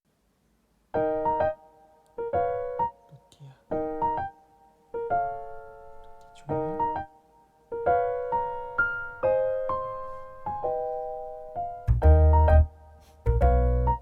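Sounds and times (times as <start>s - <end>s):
piano-like keyboard melody: 1.0s - 14.0s.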